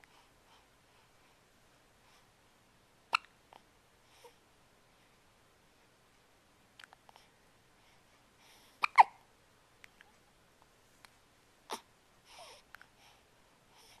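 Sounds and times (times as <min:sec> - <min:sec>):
soft breaths: 0:00.0 - 0:14.0.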